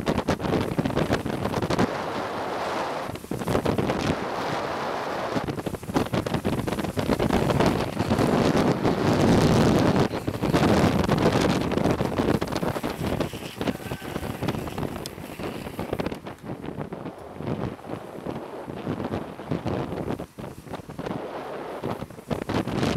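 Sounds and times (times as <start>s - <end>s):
skateboard wheels rumbling on asphalt: 0.0s - 22.9s
wind rushing over microphone: 0.0s - 22.9s.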